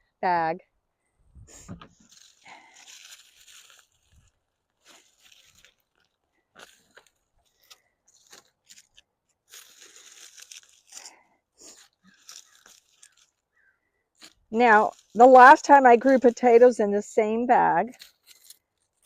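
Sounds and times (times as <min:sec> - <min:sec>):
hands rummaging through dry soil: 0:01.6 - 0:16.7, 0:17.9 - 0:19.0.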